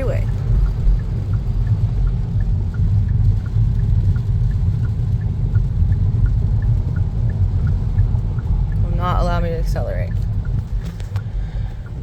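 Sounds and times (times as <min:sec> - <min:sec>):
indicator ticking: 0:00.0 - 0:10.7
road and tyre rumble in car: 0:00.0 - 0:12.0.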